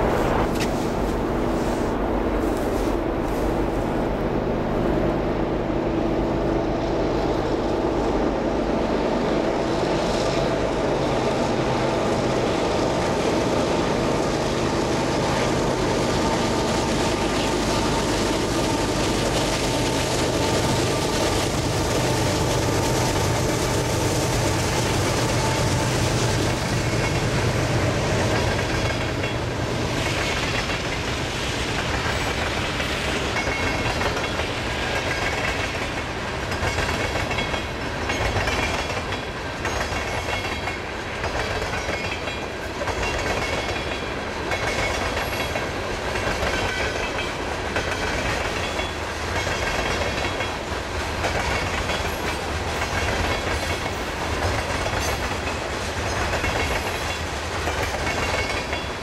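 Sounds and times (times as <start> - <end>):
diesel locomotive engines: 0.0 - 59.0
freight cars rolling on rails: 0.0 - 59.0.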